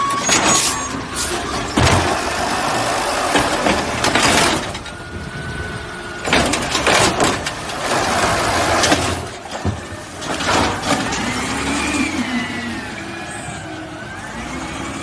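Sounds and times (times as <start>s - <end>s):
garbage truck running: 0.0s - 15.0s.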